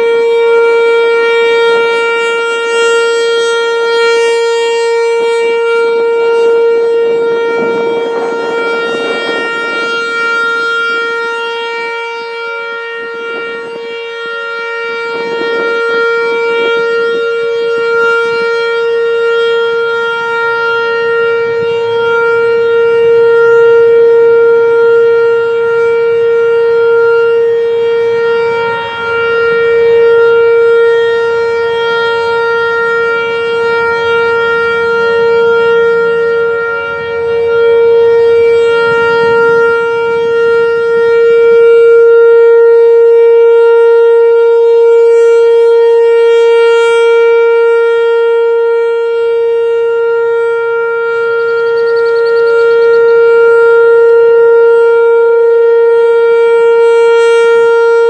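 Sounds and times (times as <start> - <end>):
warning siren steady tone: 0.0 - 58.0
wind rumble on microphone: 0.0 - 58.0.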